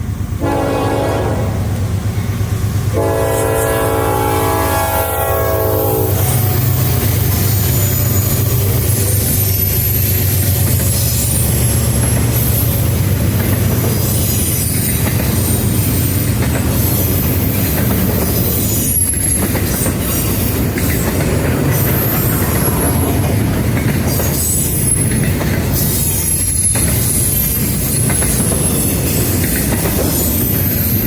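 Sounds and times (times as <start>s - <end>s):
train wheel squeal: 1.8s - 31.0s
wheels clacking over rail joints: 2.1s - 31.0s.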